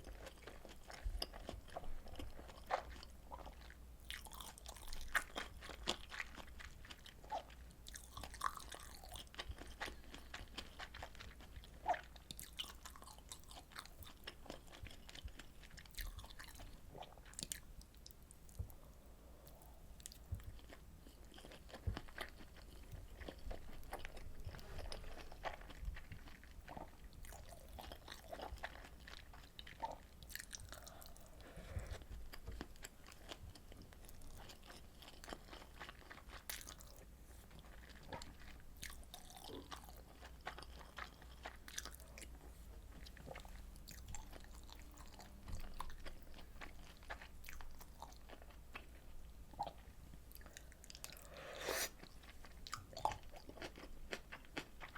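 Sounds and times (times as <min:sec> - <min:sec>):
person chewing and biting: 0:00.0 - 0:17.6, 0:20.0 - 0:49.0, 0:49.6 - 0:54.9.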